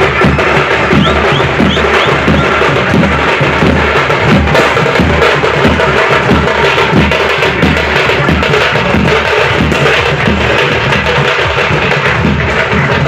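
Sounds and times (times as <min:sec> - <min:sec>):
drums beating: 0:00.0 - 0:13.0
sharp clacking beat: 0:00.0 - 0:13.0.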